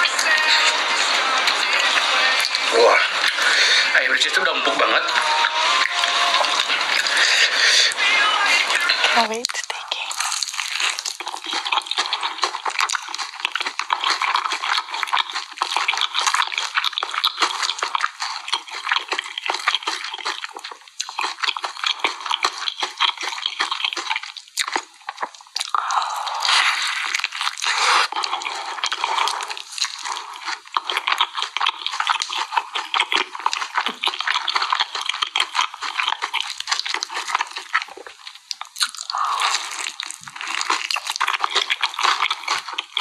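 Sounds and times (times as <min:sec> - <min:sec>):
chicken squishing in sauce: 0:00.0 - 0:08.2, 0:08.8 - 0:43.0
wet sticky chewing: 0:00.0 - 0:43.0.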